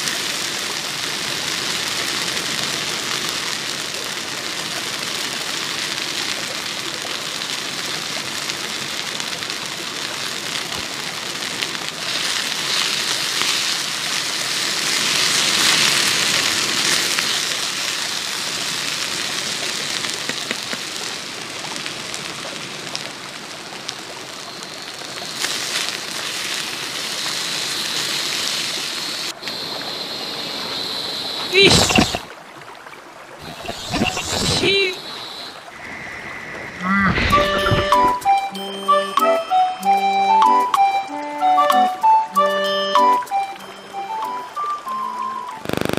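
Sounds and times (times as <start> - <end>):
stream flowing over stones: 0.0 - 38.6, 42.4 - 45.9.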